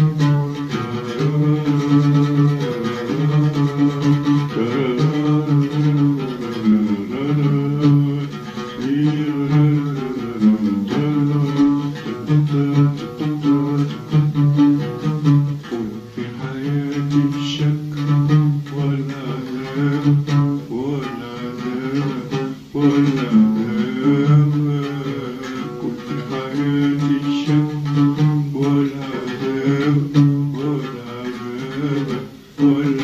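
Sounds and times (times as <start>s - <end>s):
man singing: 0.0s - 33.0s
oud plucked: 0.0s - 33.0s.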